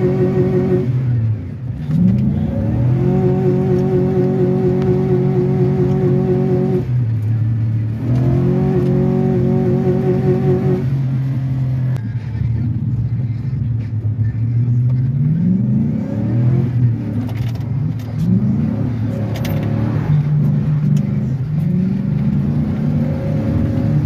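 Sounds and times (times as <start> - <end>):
pickup truck engine revving: 0.0 - 12.6, 14.6 - 24.0.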